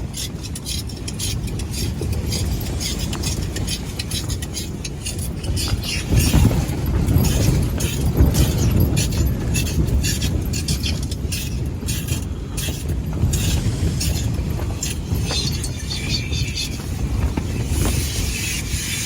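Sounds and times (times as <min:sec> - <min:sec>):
short rustles and rattles: 0:00.0 - 0:19.0
wind buffeting microphone: 0:00.0 - 0:19.0.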